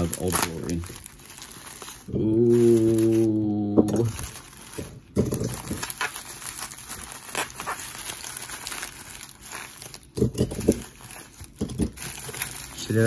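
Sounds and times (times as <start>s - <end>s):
plastic and bubble wrap crinkling: 0.0s - 13.0s.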